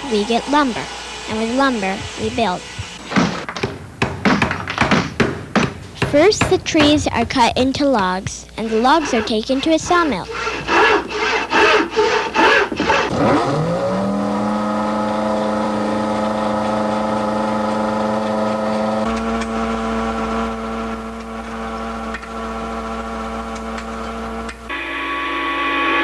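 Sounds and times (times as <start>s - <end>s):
motor spinning up and whining: 0.0s - 3.6s, 8.6s - 26.0s.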